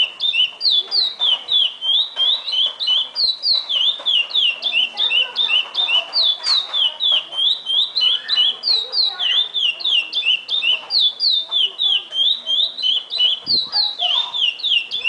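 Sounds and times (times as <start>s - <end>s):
finch singing high whistled notes: 0.0s - 15.0s.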